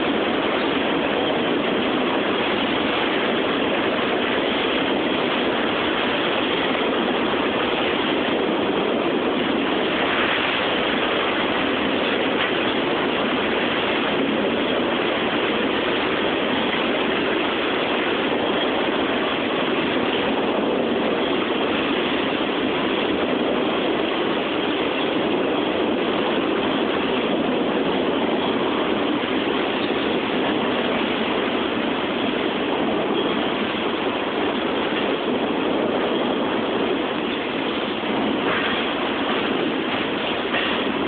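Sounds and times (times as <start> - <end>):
freight train cars rolling: 0.0 - 41.0.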